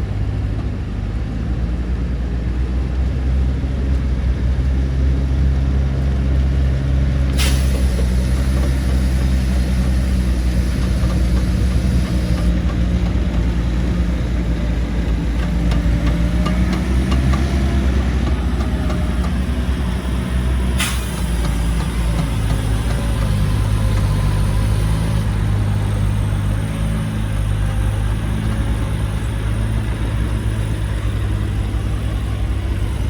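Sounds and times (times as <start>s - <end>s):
heavy diesel engine droning: 0.0s - 33.0s.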